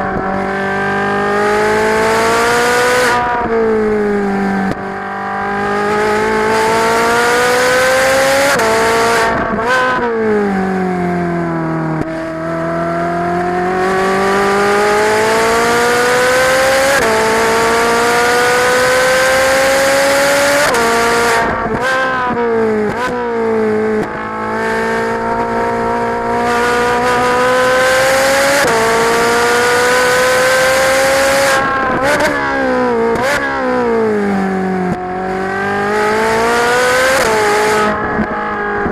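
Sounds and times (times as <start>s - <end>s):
engine rev blips on downshifts: 0.0s - 38.9s
sports car engine revving: 0.0s - 38.9s.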